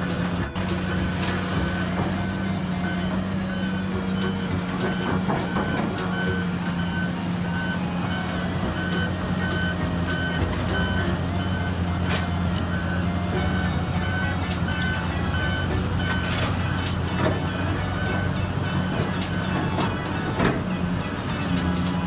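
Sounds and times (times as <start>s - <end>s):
back-up alarm beeping: 0.0s - 22.0s
diesel engine drone: 0.0s - 22.0s.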